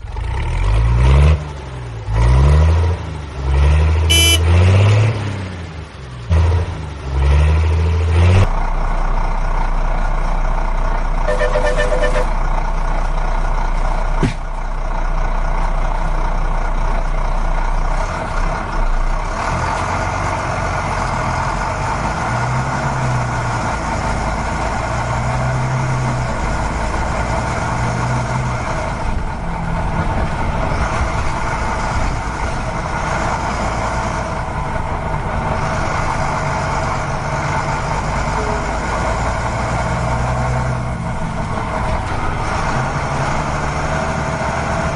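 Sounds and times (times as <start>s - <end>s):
vehicle engine running: 4.1s - 4.6s, 8.2s - 44.9s.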